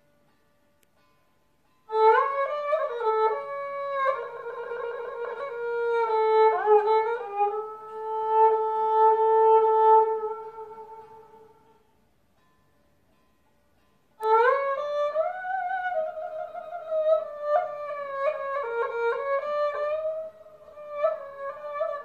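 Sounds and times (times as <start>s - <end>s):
bowed lyra slow melody: 0.0s - 22.0s.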